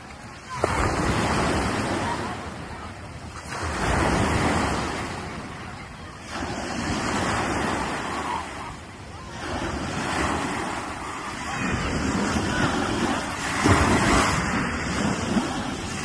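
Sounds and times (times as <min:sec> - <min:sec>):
small waves breaking on beach: 0:00.0 - 0:16.0.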